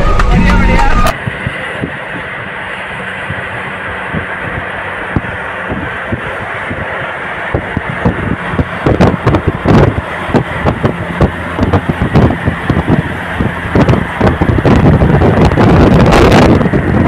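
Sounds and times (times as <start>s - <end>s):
highway traffic noise: 0.0s - 17.0s
wind buffeting microphone: 1.1s - 17.0s.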